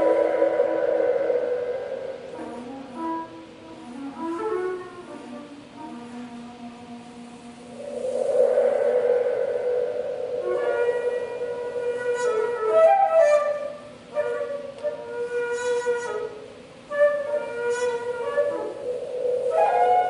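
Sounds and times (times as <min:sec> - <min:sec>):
bamboo flute long held notes: 0:00.0 - 0:20.0.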